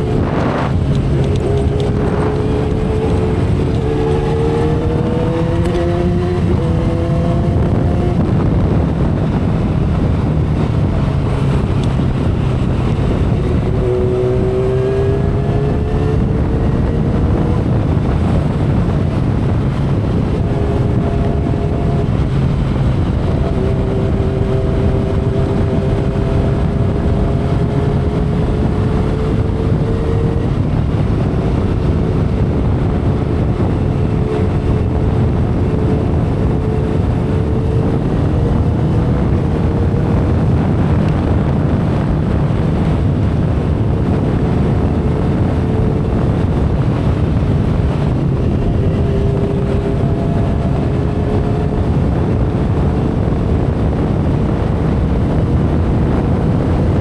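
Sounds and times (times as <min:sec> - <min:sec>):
motorcycle engine cruising: 0:00.0 - 0:57.0
road noise: 0:00.0 - 0:57.0
wind rush on microphone: 0:00.0 - 0:57.0.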